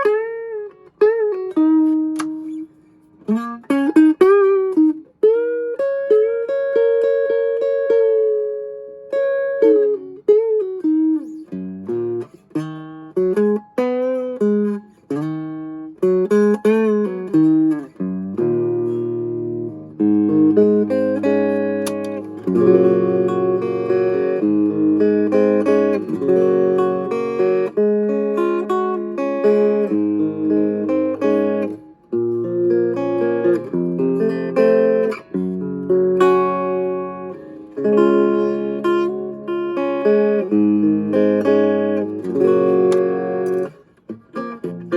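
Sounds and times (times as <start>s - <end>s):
clean electric guitar: 0.0s - 44.9s.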